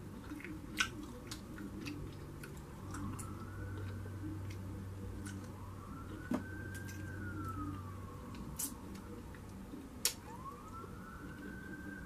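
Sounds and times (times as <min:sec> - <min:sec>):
siren wailing: 0:01.8 - 0:12.0.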